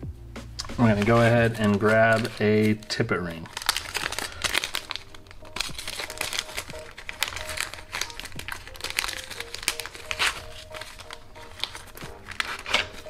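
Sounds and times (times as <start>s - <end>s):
plastic packet crinkling: 0.6s - 13.0s.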